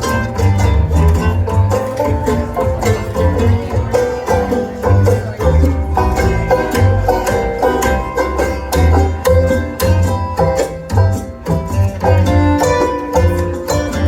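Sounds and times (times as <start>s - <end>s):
plucked string lead: 0.0s - 14.0s
pulsing bass line: 0.0s - 14.0s.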